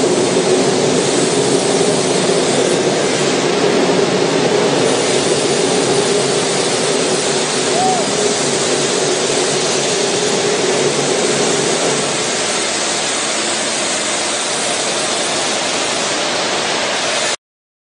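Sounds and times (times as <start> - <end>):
steady hum: 0.0 - 17.4
water spraying: 0.0 - 17.4.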